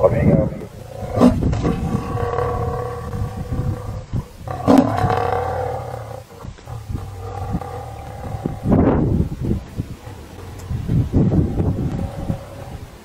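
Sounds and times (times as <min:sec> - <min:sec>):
large animal moaning calls: 0:00.5 - 0:13.0.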